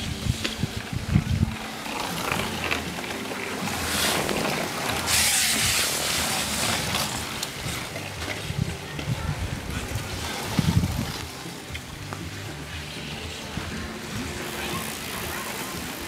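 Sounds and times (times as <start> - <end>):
bike tyres hissing through mud: 0.0 - 16.0.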